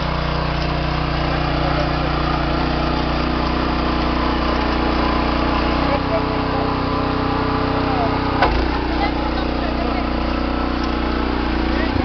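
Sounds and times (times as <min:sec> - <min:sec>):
rototiller engine running: 0:00.0 - 0:12.0
tines churning soil: 0:00.0 - 0:12.0.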